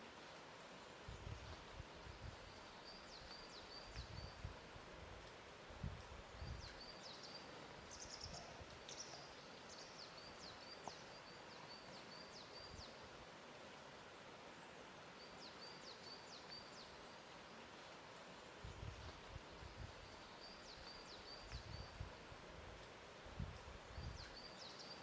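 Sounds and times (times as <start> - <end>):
steady soft hiss: 0.0 - 25.0.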